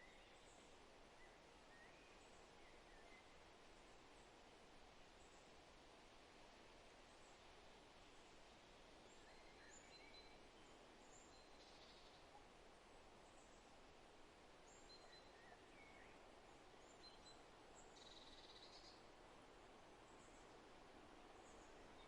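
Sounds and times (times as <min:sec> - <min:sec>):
breeze through trees: 0:00.0 - 0:22.0.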